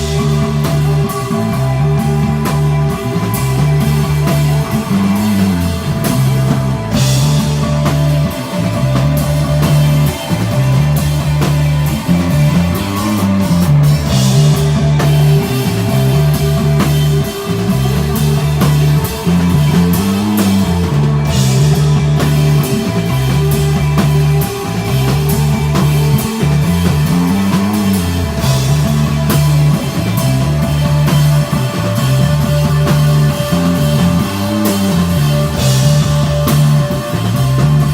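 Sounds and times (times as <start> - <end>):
bass guitar riff: 0.0 - 37.9
drum kit and cymbals: 0.0 - 37.9
echoing electric guitar: 0.0 - 37.9.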